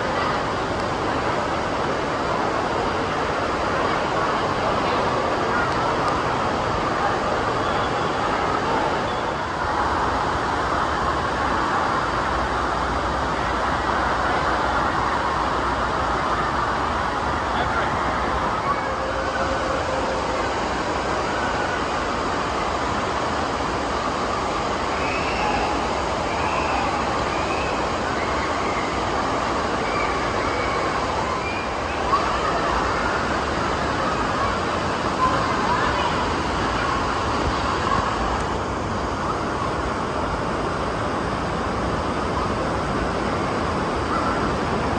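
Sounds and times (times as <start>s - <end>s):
churning pool water rushing: 0.0s - 44.9s
faint voices: 0.0s - 44.9s.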